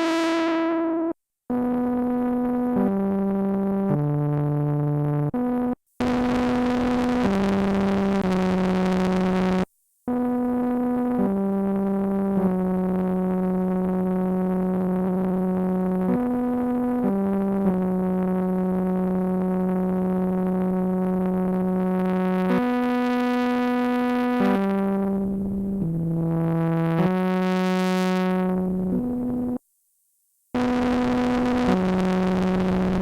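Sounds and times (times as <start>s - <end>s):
analog synthesizer sustained notes: 1.6s - 29.6s, 30.6s - 33.0s.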